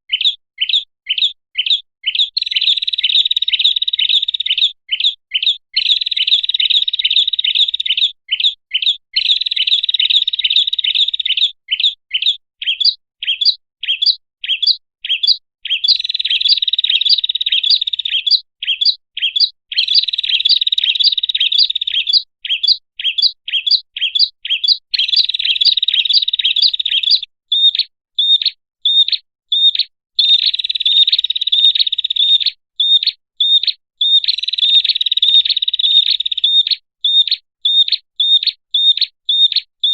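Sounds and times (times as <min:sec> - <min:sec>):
bird chirps and trilling: 0:00.1 - 0:39.9.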